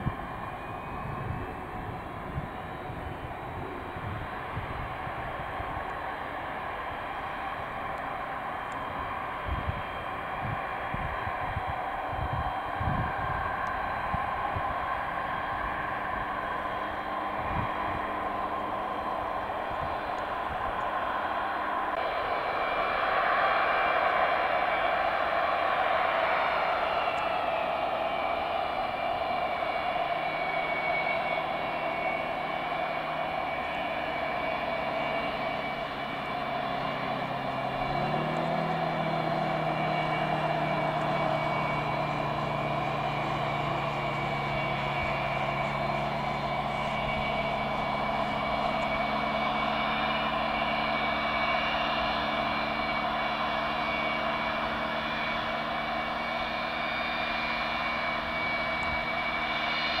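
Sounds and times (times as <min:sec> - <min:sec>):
jet turbofans whining: 0:00.0 - 1:00.0.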